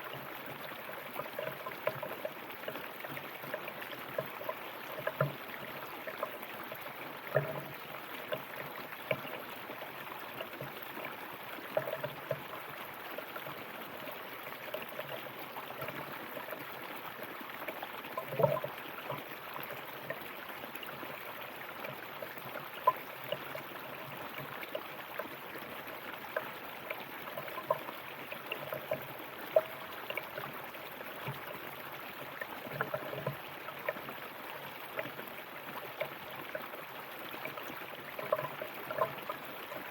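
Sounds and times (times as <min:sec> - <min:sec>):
river water running: 0:00.0 - 0:39.9
water gurgles and splashes: 0:00.0 - 0:39.9.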